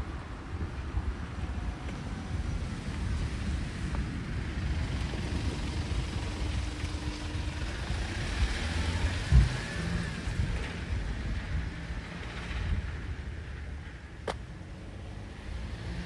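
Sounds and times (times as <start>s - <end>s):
motor vehicle running: 0.0s - 16.0s
wind rumble on microphone: 0.0s - 16.0s.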